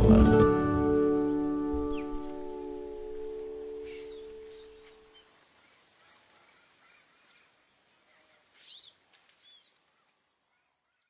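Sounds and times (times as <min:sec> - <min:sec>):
insect drone: 0:00.0 - 0:11.0
bird chirping: 0:01.0 - 0:11.0.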